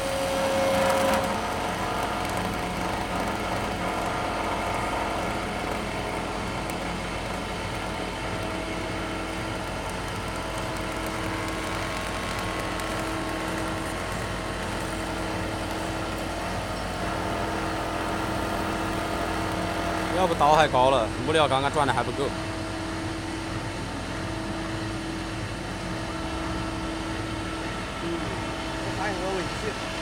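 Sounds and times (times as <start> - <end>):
milling machine drone: 0.0 - 30.0.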